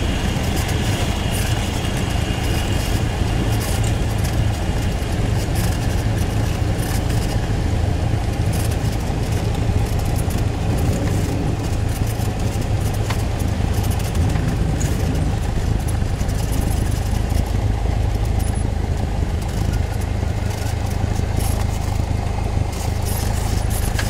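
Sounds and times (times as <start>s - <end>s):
light aircraft engine droning: 0.0s - 24.0s.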